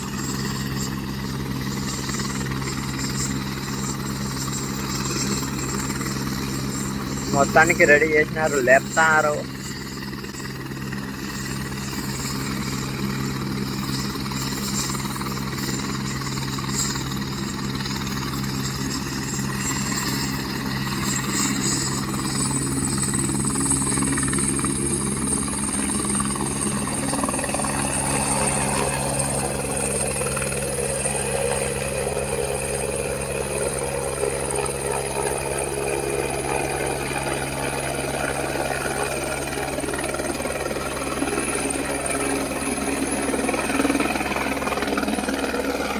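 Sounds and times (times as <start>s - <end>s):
helicopter rotor chopping: 0.0s - 45.9s
high turbine whine: 0.0s - 45.9s.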